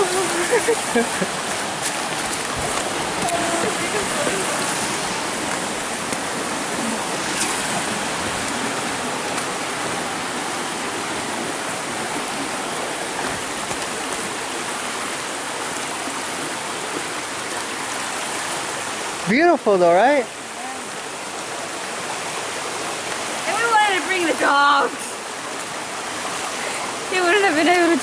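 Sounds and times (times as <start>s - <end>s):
creek running over stones: 0.0s - 28.0s.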